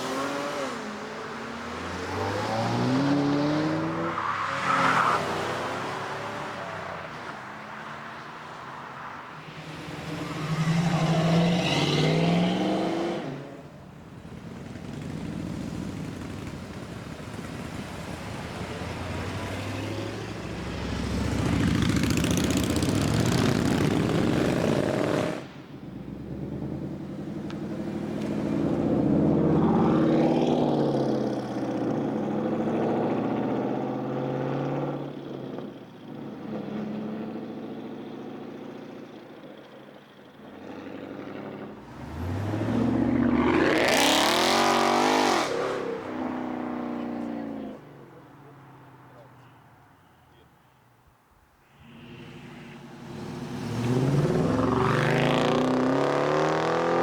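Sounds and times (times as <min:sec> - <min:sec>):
cars accelerating hard: 0:00.0 - 0:49.3, 0:51.8 - 0:57.0.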